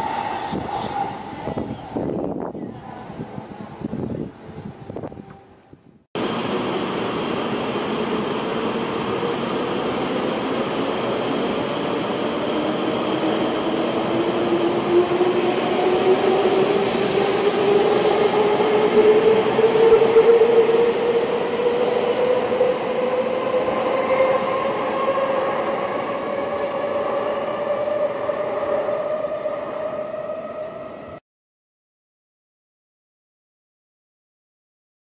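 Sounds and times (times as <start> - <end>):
wheels rushing on rail: 0.0 - 31.2.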